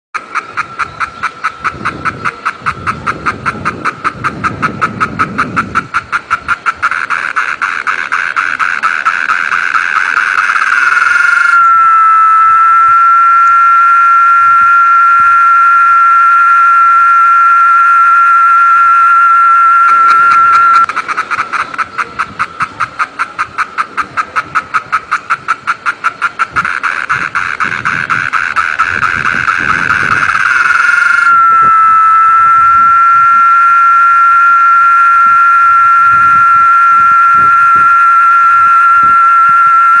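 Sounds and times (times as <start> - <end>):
cicada buzzing: 0.2 - 40.0.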